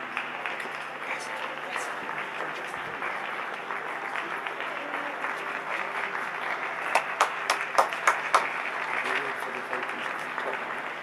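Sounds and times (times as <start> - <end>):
close hand claps: 0.0 - 11.0
crowd applause: 0.0 - 11.0.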